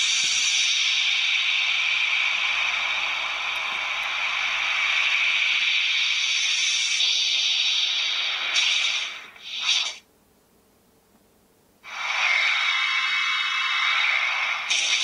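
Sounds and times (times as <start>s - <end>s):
toy belt hiss-like sound effect: 0.0s - 10.0s, 11.8s - 15.0s.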